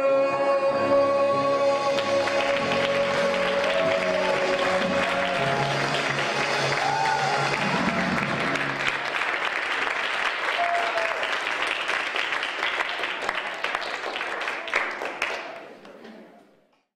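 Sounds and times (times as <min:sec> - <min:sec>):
audience applauding: 0:01.8 - 0:15.9.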